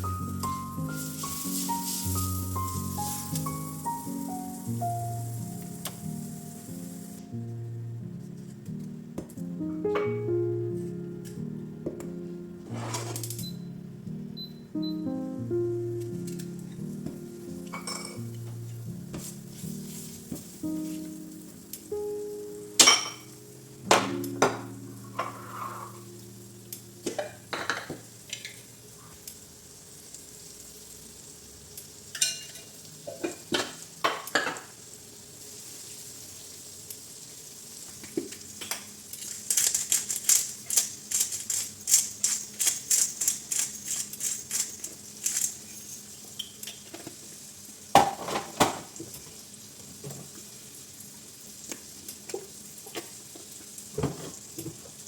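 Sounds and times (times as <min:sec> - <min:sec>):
food sizzling in a pan: 0:00.0 - 0:07.5, 0:16.1 - 0:42.2, 0:43.7 - 0:55.0.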